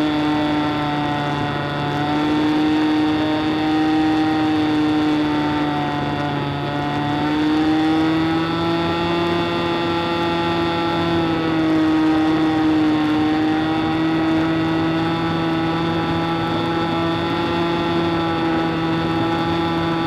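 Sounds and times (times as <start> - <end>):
model airplane engine drone: 0.0 - 20.0.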